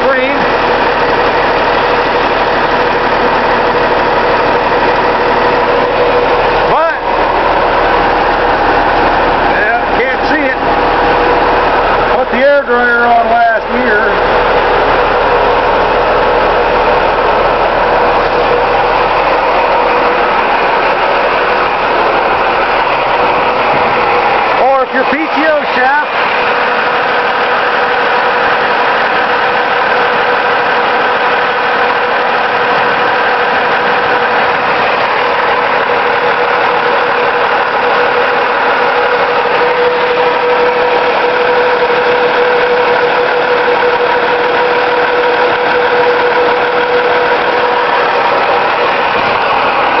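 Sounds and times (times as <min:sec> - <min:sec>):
garbage truck engine idling: 0:00.0 - 0:50.0.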